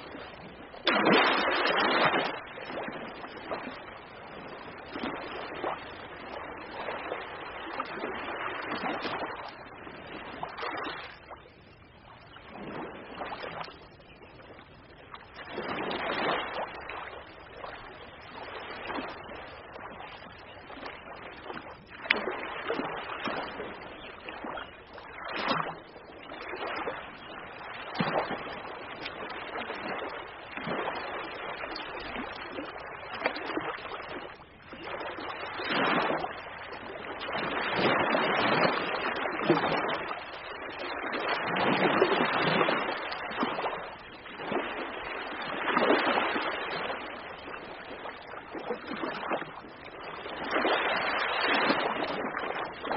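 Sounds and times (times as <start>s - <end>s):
ocean waves breaking: 0.0s - 11.2s, 15.2s - 25.8s, 26.4s - 52.9s.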